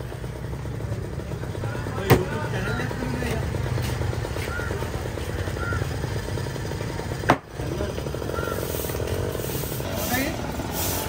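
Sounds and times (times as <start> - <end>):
low engine running: 0.0 - 11.0.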